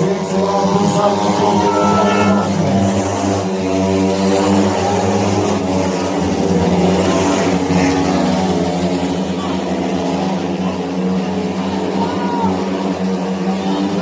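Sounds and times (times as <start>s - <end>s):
motorcycles racing: 0.0s - 14.0s.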